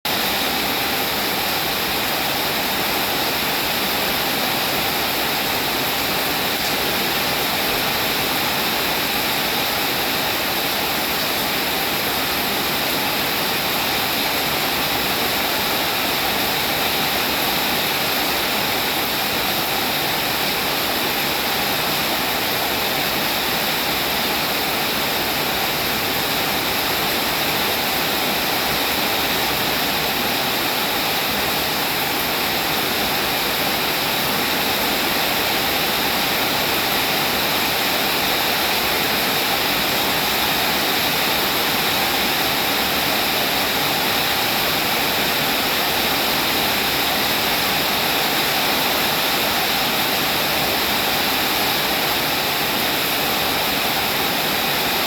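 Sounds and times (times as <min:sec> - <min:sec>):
steady rain: 0:00.1 - 0:55.0.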